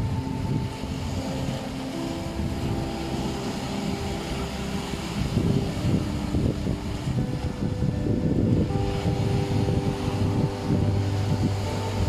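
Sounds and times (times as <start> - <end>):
sea waves washing over stony shore: 0.0 - 12.0
soft meditation music: 0.0 - 12.0
wind rumbling on microphone: 0.0 - 12.0.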